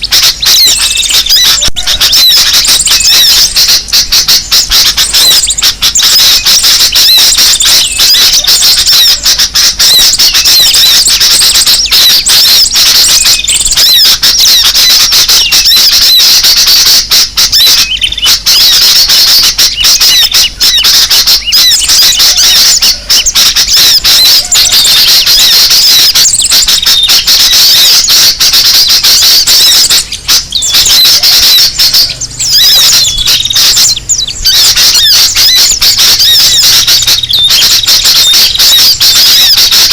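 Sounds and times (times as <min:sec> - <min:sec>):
chatter of many small birds: 0:00.0 - 0:39.9.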